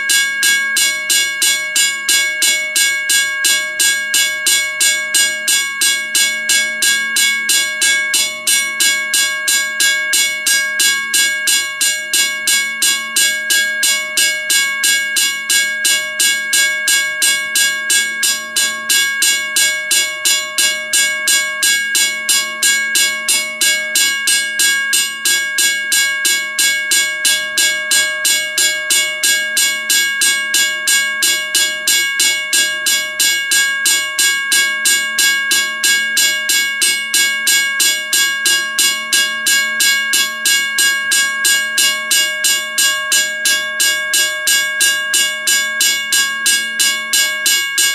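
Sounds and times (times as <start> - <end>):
railroad crossing bell ringing: 0.0 - 47.9.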